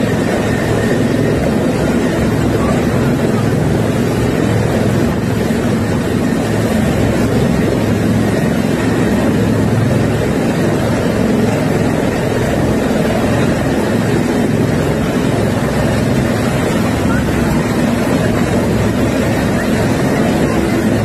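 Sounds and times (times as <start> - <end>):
floodwater rushing: 0.0 - 21.0
helicopter rotor beating: 0.0 - 21.0.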